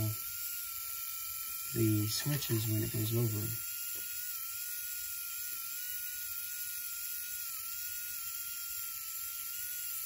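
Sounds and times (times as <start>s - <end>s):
small electric motor whining: 0.0s - 10.0s.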